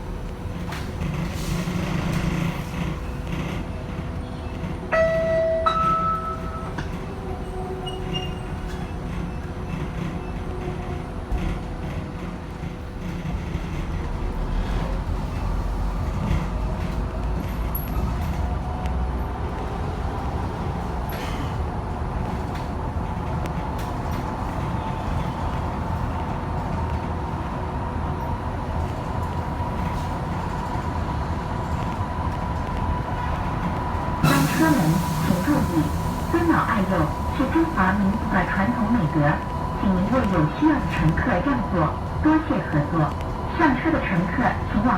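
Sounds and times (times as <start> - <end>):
bus road and tyre rumble: 0.0 - 5.0, 5.6 - 44.9.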